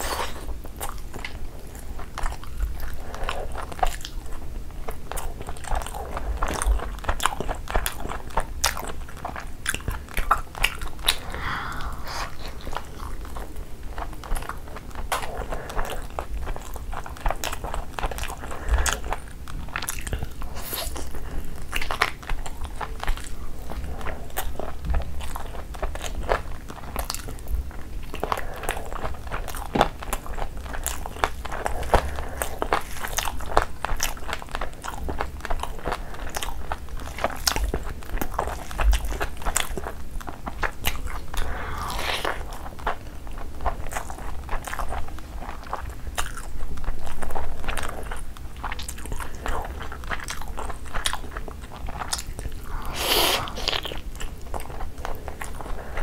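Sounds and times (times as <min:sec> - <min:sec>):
biting and chewing: 0:00.0 - 0:56.0.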